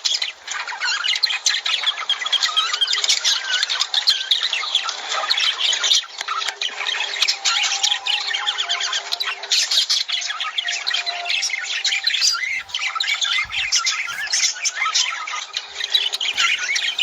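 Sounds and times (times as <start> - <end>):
lovebirds squawking and chirping: 0.0 - 17.0.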